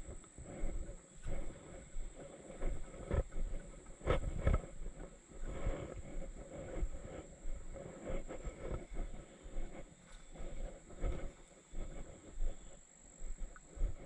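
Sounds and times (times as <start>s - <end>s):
footsteps on dirt trail: 0.0s - 14.0s.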